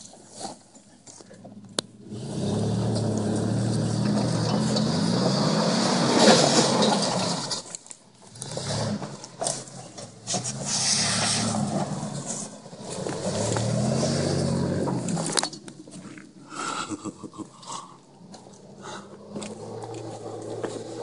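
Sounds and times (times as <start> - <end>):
engine working under load: 1.4 - 21.0.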